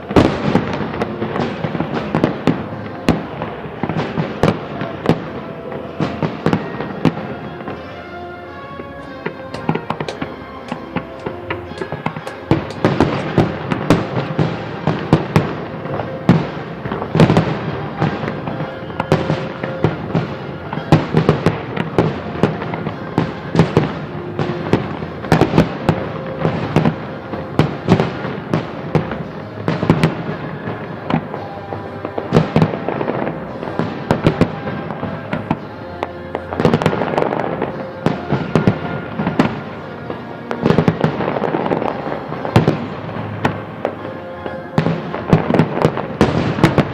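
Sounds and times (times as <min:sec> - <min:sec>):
fireworks bangs and crackles: 0:00.0 - 0:46.9
music playing: 0:00.0 - 0:46.9.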